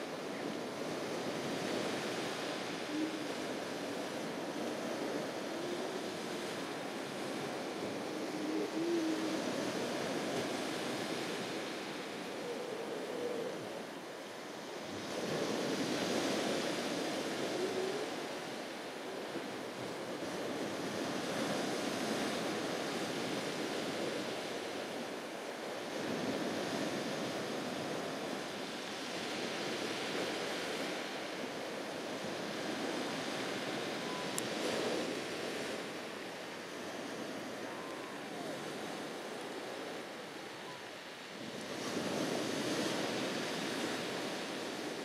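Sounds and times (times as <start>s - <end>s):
surf washing onto beach: 0.0s - 45.0s
wind: 0.0s - 45.0s.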